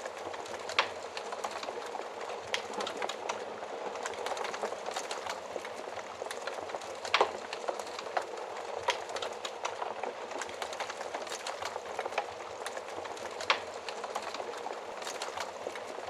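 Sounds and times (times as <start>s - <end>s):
wood fire crackling and hissing: 0.0s - 16.0s.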